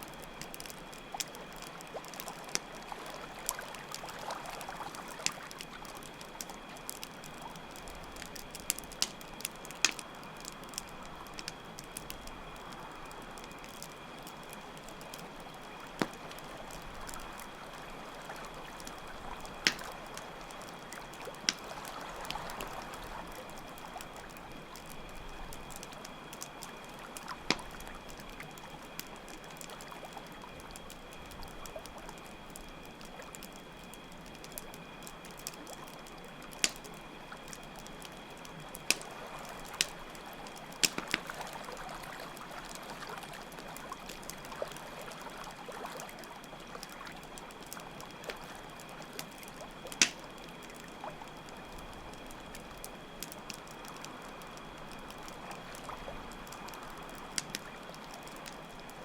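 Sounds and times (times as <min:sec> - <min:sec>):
campfire crackling pops: 0:00.0 - 0:59.0
crickets chirring: 0:00.0 - 0:59.0.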